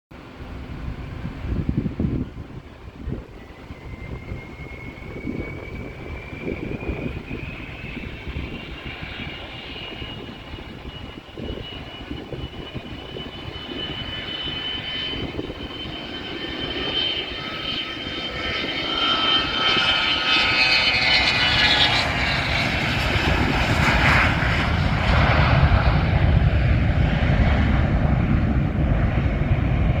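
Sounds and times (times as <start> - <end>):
jet engines at takeoff: 0.1 - 30.0.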